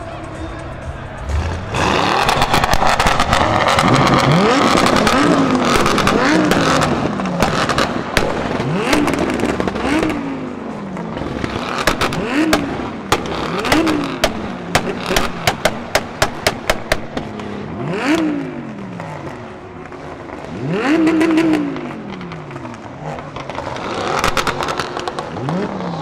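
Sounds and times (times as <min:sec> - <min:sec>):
loud rushing noise: 0:00.0 - 0:26.0
car engine revving: 0:00.8 - 0:26.0
exhaust pops and cracks: 0:01.8 - 0:10.4, 0:11.0 - 0:18.4, 0:19.1 - 0:26.0.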